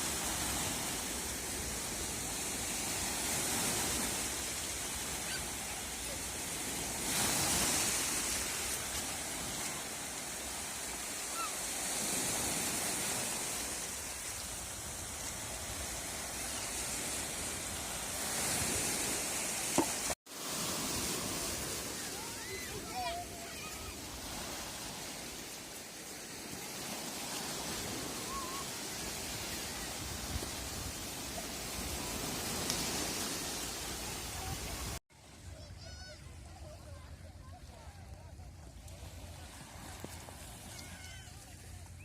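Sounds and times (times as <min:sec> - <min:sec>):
waves washing ashore: 0:00.0 - 0:42.0.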